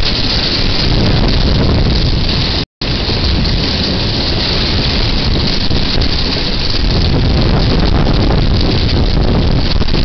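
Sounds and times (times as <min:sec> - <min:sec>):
heavy wind-driven rain: 0:00.0 - 0:10.0
storm wind buffeting microphone: 0:00.0 - 0:10.0.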